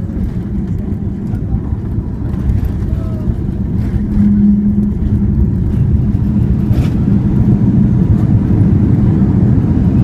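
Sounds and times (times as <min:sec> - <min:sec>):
low rumble of engines and wheels: 0:00.0 - 0:10.0.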